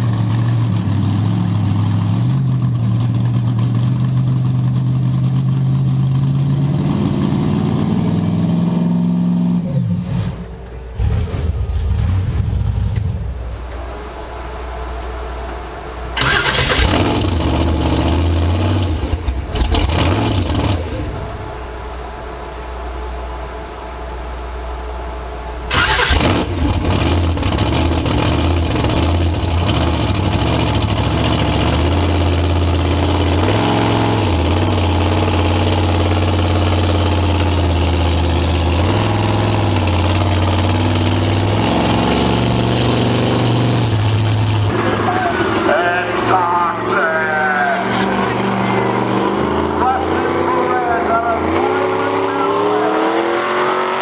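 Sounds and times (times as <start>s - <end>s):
vehicle engine starting and running: 0.0s - 54.0s.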